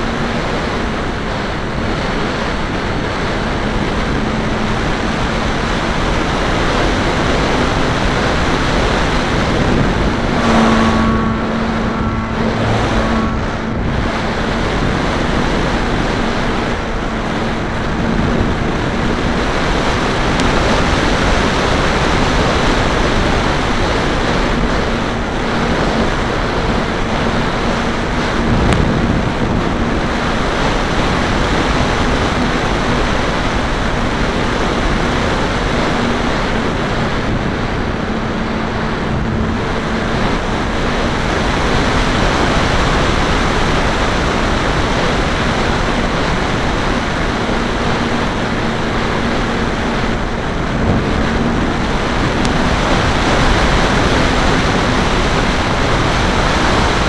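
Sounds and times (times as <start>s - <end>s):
electric motor and propeller hum: 0.0s - 57.0s
wind rushing over microphone: 0.0s - 57.0s.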